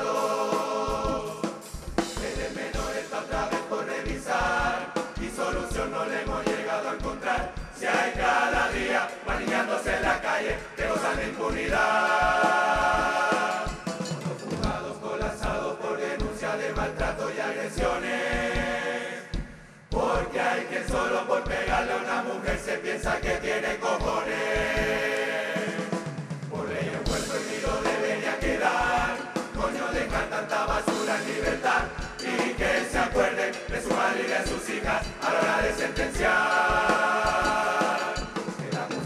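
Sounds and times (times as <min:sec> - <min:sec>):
chorus singing held chords: 0:00.0 - 0:39.0
drums beating: 0:00.0 - 0:39.0.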